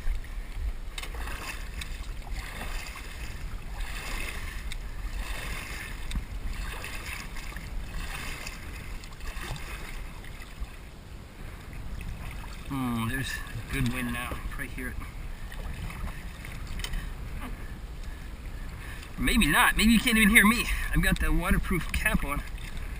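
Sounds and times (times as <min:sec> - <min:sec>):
low wind rumble: 0:00.0 - 0:22.9
water lapping around kayak: 0:00.0 - 0:22.9.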